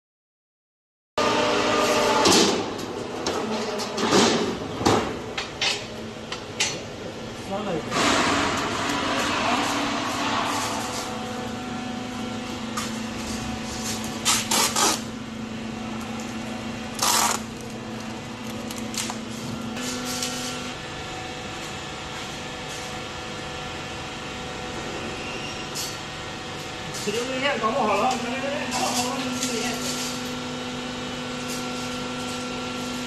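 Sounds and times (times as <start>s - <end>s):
workshop machinery humming: 1.2s - 33.0s.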